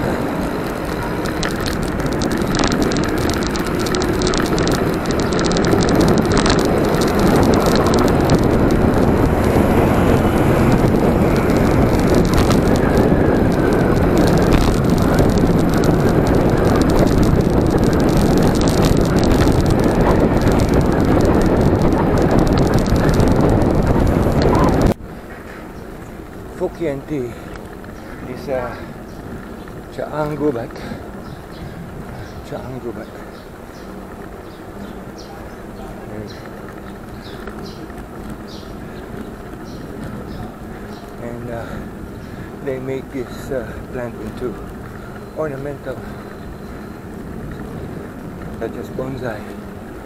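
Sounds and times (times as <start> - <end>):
bicycle tyre and road noise: 0.0 - 50.0
wind rushing over microphone: 0.0 - 50.0.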